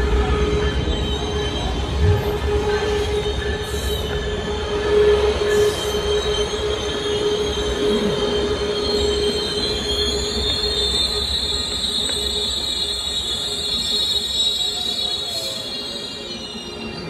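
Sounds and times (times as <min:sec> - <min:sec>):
diesel train rumble: 0:00.0 - 0:17.0.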